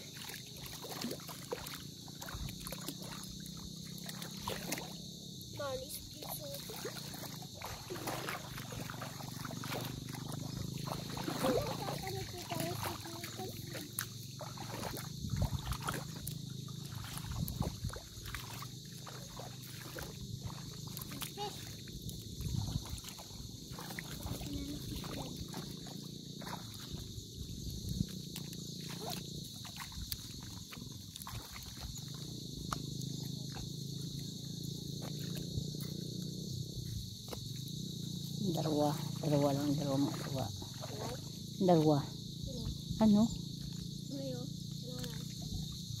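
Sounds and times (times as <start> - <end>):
insects chirring: 0.0 - 46.0
seawater sloshing around wading legs: 0.0 - 46.0.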